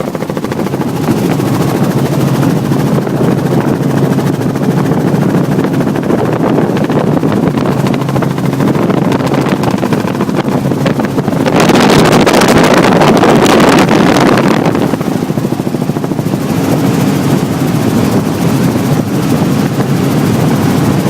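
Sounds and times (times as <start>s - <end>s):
helicopter rotor and engine: 0.0s - 21.0s
wind noise on microphone: 0.0s - 21.0s.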